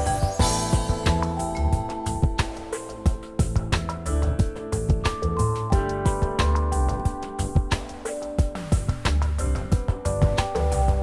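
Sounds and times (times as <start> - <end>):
instrumental music with keyboard: 0.0 - 11.0.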